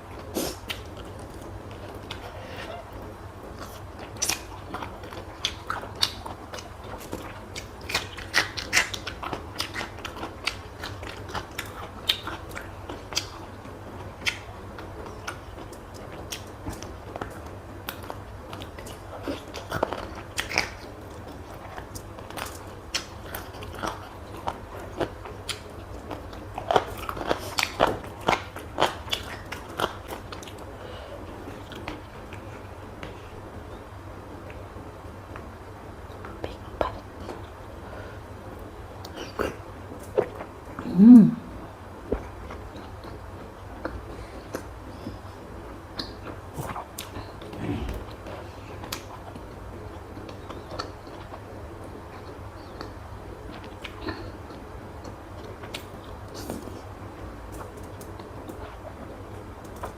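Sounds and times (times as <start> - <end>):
person chewing food: 0.2 - 33.2, 39.0 - 59.9.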